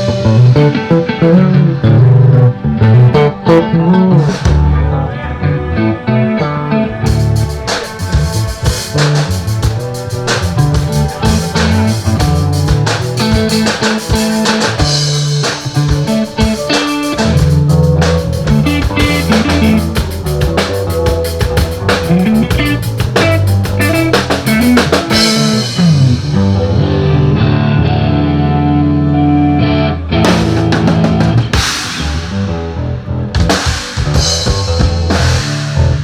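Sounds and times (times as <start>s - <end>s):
bass guitar: 0.0s - 36.0s
electric guitar: 0.0s - 36.0s.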